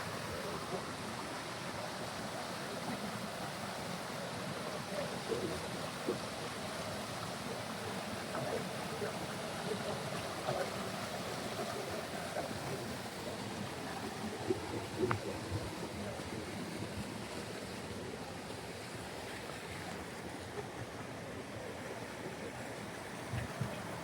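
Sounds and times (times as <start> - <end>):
flowing stream rushing: 0.0 - 24.0.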